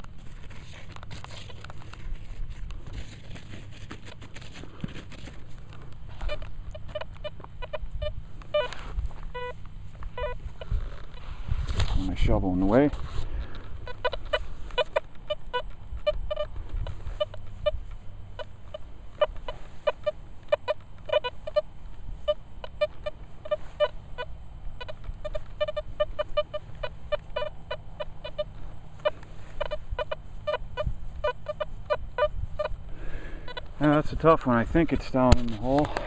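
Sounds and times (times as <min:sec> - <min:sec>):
metal detector beeping: 0:00.0 - 0:11.3, 0:13.5 - 0:36.0.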